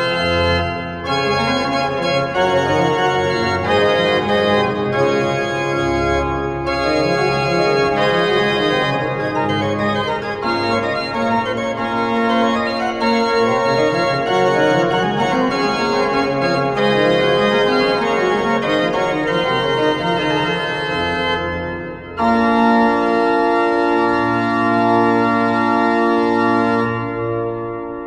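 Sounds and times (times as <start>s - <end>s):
pipe organ playing dance music: 0.0s - 28.0s.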